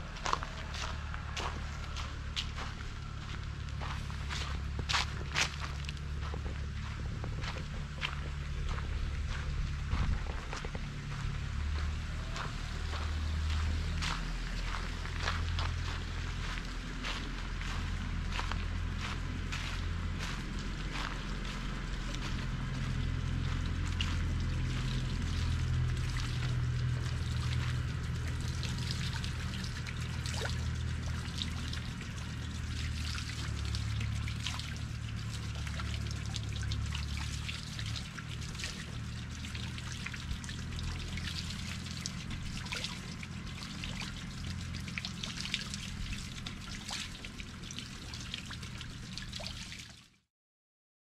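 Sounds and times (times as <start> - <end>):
low rumble: 0.0 - 49.3
water trickling and splashing: 0.0 - 50.3.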